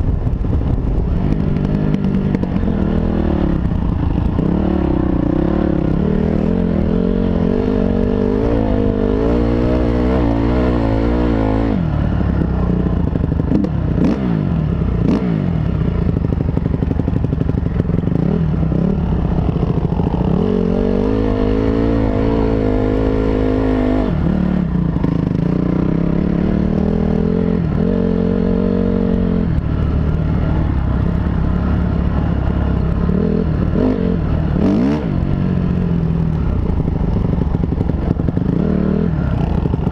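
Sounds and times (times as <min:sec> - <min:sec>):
dirt bike engine revving: 0:01.3 - 0:12.8, 0:13.4 - 0:35.8.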